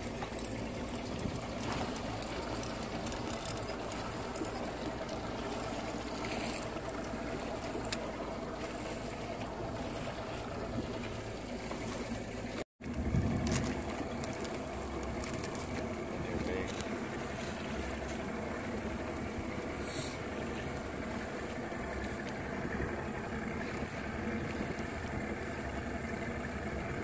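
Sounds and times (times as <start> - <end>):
boat motor running: 0.0 - 27.0
water rushing past hull: 0.0 - 27.0.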